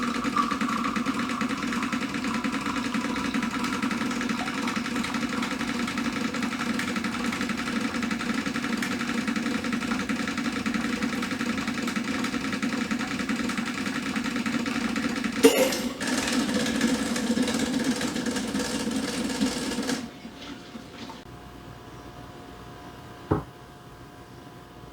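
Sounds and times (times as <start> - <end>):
coffee machine buzzing hum: 0.0 - 24.9.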